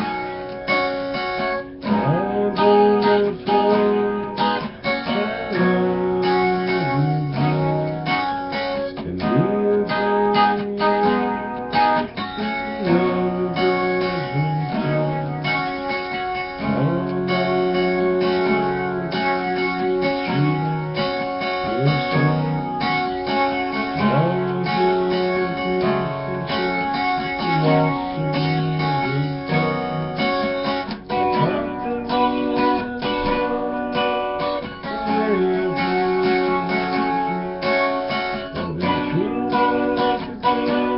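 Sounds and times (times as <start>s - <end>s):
guitar with sliding notes: 0.0s - 40.9s.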